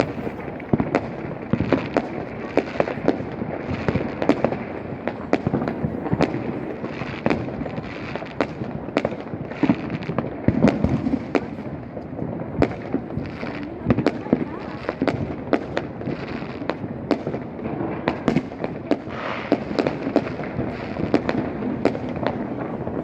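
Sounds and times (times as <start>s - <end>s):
fireworks and firecrackers exploding: 0.0s - 23.0s.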